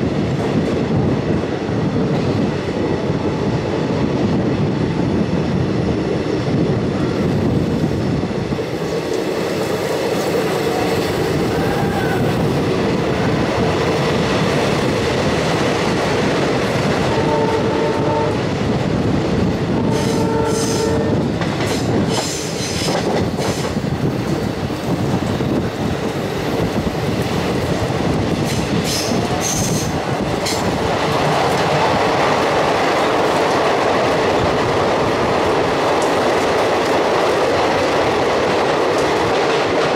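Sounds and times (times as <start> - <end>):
train wheels clattering on rail: 0.0 - 39.9.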